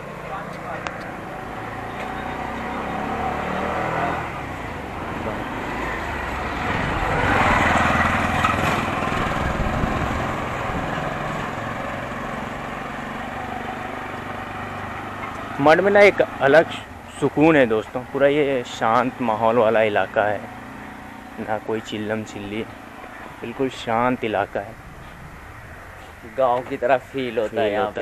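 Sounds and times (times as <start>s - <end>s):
small vehicle engine running: 0.0s - 26.1s.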